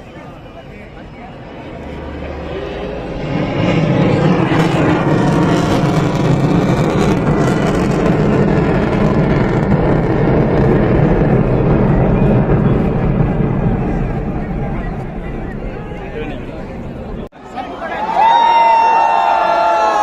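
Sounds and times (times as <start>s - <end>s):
fighter jet engine roar: 0.0s - 17.3s.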